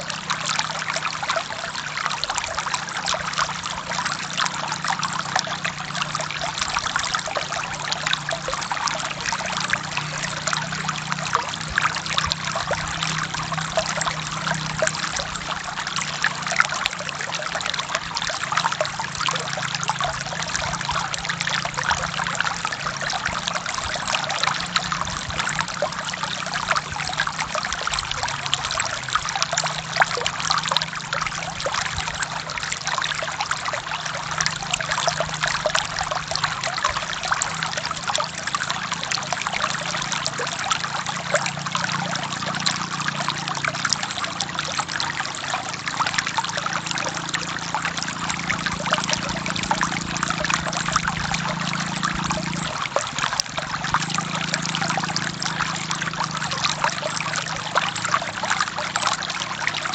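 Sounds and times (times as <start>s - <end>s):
forest river flowing: 0.0s - 59.9s.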